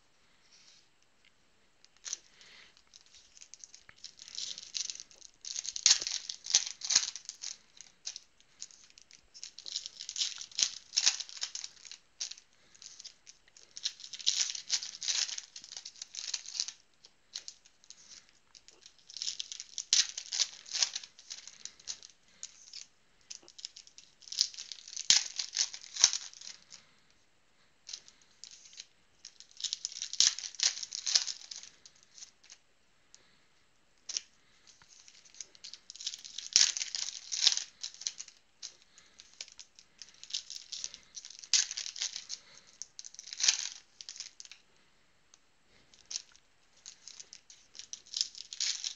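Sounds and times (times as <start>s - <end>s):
cards and packs crinkling: 1.8s - 27.1s, 27.8s - 32.6s, 34.0s - 44.8s, 45.7s - 48.9s.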